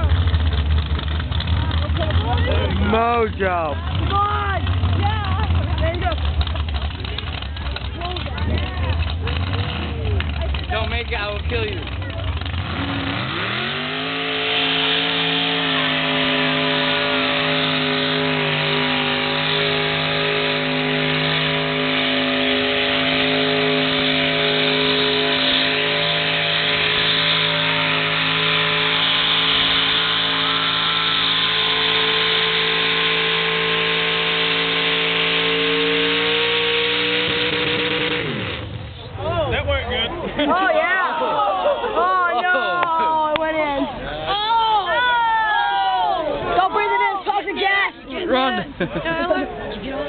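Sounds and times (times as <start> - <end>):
truck engine revving: 0.0 - 41.2.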